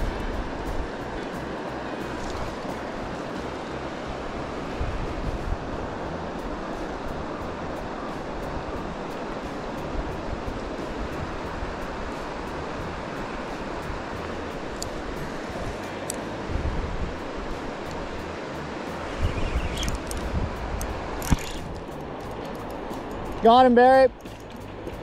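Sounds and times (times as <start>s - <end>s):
river current rushing: 0.0s - 25.0s
wind buffeting microphone: 0.0s - 25.0s.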